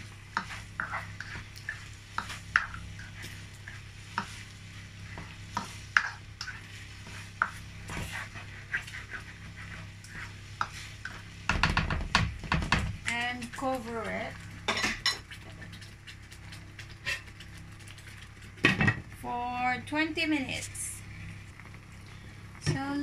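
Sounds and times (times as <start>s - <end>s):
spatula scraping and tapping pan: 0.0s - 19.0s
sauce simmering: 0.0s - 19.2s, 20.5s - 22.7s.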